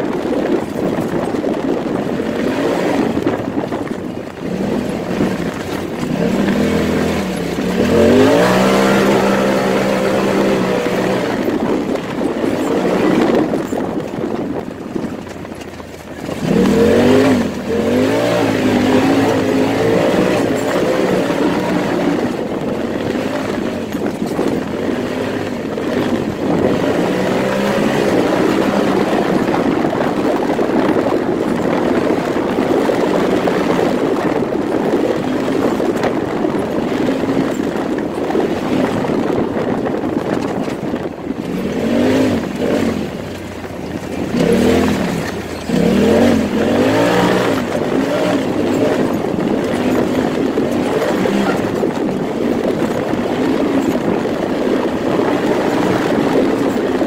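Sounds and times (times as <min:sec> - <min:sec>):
rough ground noise: 0:00.0 - 0:57.0
turbocharged engine accelerating: 0:00.0 - 0:57.0
wind noise: 0:00.0 - 0:57.0.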